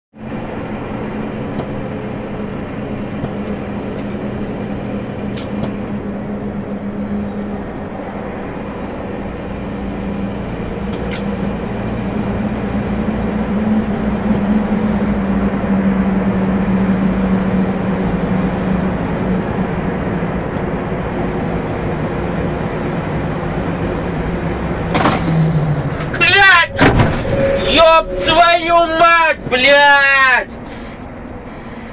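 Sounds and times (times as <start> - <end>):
road noise: 0.1 - 31.9
lorry engine droning: 0.2 - 31.9.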